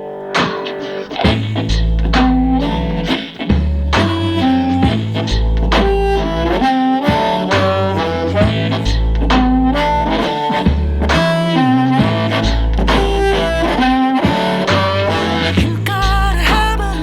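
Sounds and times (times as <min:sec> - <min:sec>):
instrumental music with bass: 0:00.0 - 0:17.0.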